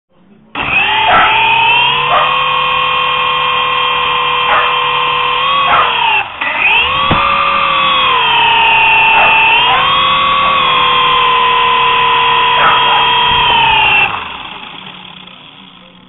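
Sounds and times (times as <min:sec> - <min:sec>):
toy helicopter motor whining: 0:00.6 - 0:16.0.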